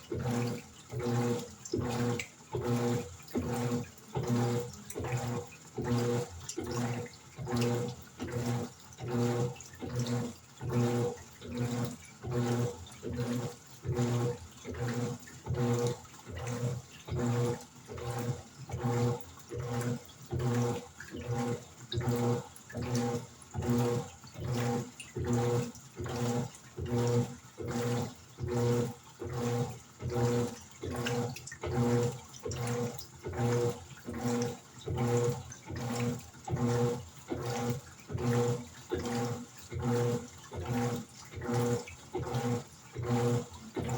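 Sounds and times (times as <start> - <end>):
washing machine agitating: 0.0 - 43.9.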